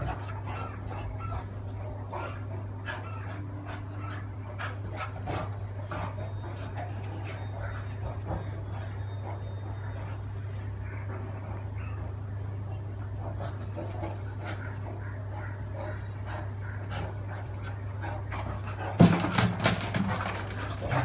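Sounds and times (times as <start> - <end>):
dog panting: 0.0 - 12.2, 12.8 - 21.0
steady low hum: 0.0 - 21.0.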